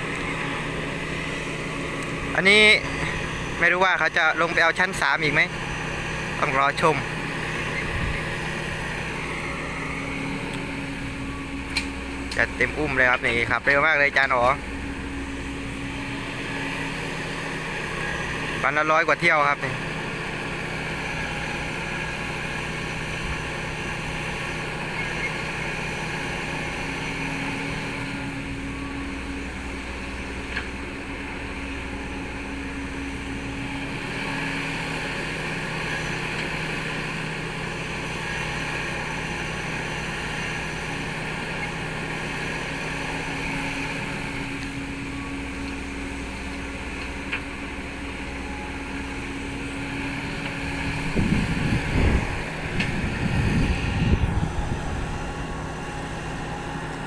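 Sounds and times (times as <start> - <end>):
heavy machinery engine humming: 0.0 - 57.0.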